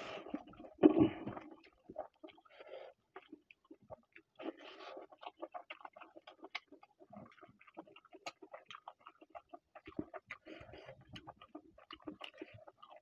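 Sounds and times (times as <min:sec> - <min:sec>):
wet chewing smacks: 0:00.5 - 0:13.0.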